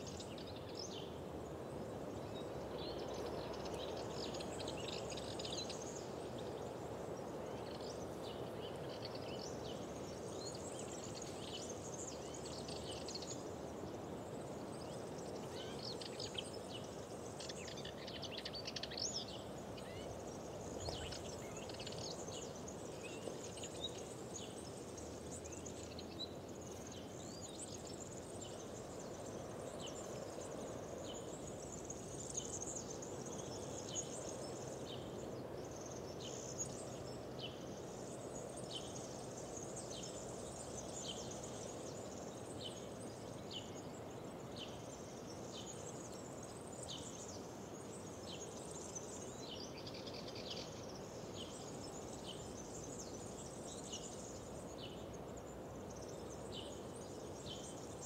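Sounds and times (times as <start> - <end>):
songbirds chirping and singing: 2.4 - 58.0.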